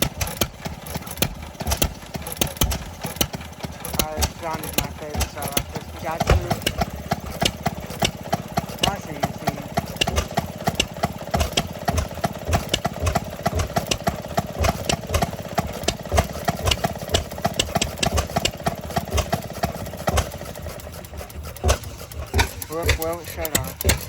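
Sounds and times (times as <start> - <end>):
stationary gas engine running: 0.0 - 24.0.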